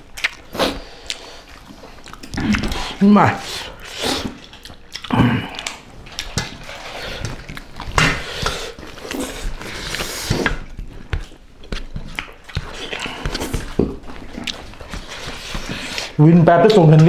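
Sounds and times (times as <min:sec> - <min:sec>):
chewing and mouth smacking: 0:00.0 - 0:17.0
fingers rustling food on plates: 0:00.0 - 0:17.0.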